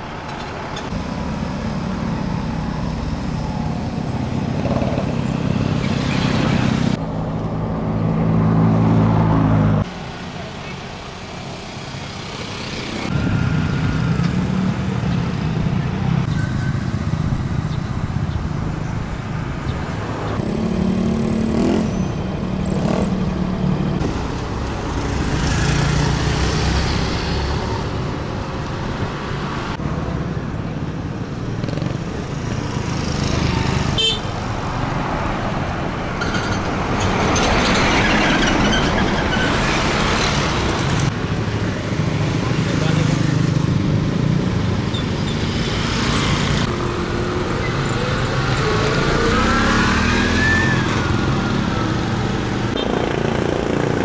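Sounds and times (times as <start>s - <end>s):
motorcycles passing: 0.9s - 38.4s, 39.2s - 54.0s.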